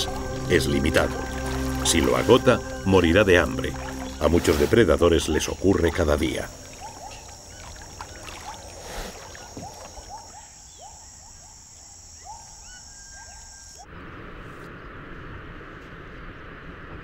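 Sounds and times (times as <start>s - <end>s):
high-pitched insect buzz: 0.0s - 13.8s
short chirping calls: 0.0s - 13.8s.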